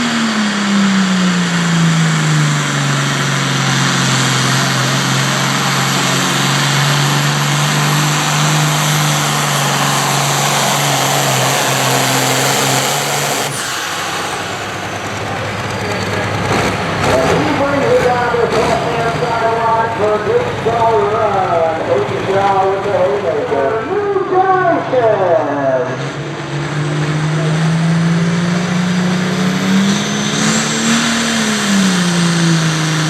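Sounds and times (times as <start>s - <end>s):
engine running hard under load: 0.0s - 33.0s.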